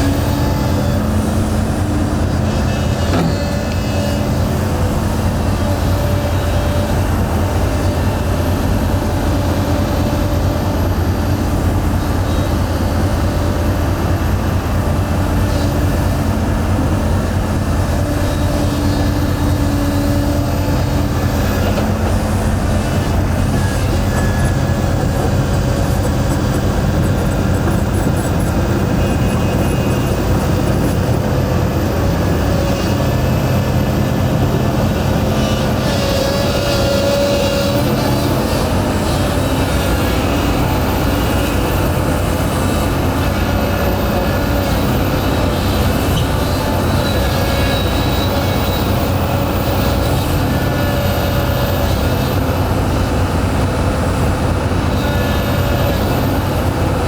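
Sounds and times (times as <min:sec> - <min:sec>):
heavy diesel machinery running: 0:00.0 - 0:57.0
high metallic whines and squeals: 0:00.0 - 0:57.0.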